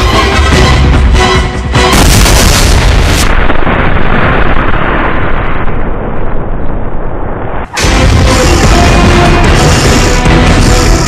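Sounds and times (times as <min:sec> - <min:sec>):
huge explosion with rumble: 0:01.8 - 0:11.0.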